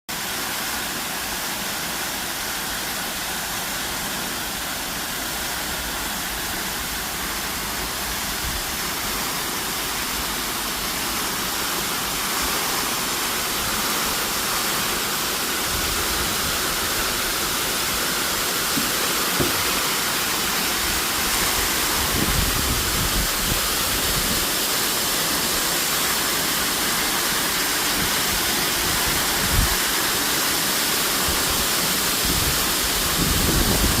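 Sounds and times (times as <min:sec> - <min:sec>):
waterfall rushing: 0:00.1 - 0:34.0.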